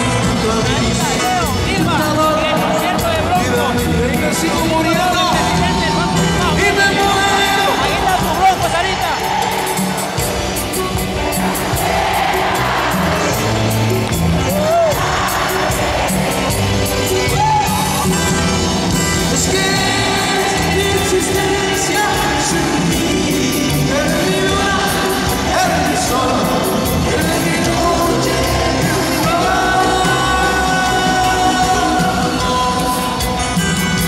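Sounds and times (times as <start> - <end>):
live band with lead vocal: 0.0 - 34.0
audience yells and shouts: 1.2 - 33.6.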